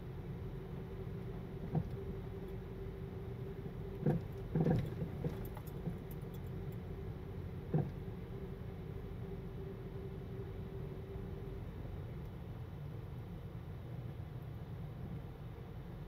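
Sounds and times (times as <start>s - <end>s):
car road and engine noise: 0.0s - 16.0s
faint steady hum: 0.0s - 16.0s.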